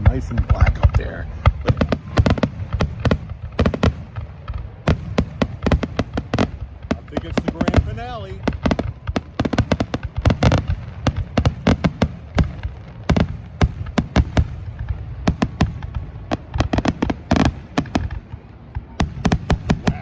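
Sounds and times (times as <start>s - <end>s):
fireworks bursts and bangs: 0.0s - 20.0s.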